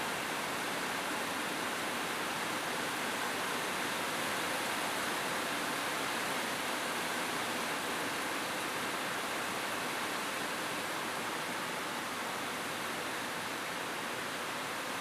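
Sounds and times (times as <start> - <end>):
rain on a roof: 0.0 - 15.0.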